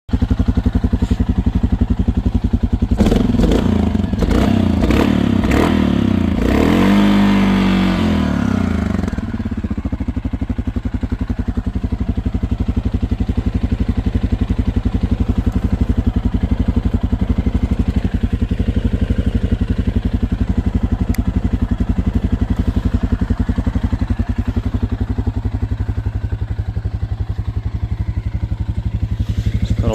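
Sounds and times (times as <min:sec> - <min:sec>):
quad bike engine idling and revving: 0:00.1 - 0:29.9.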